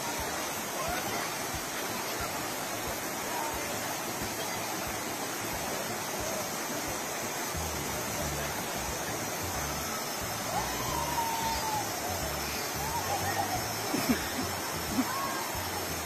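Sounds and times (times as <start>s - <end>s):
river rapids rushing over rocks: 0.0s - 16.0s.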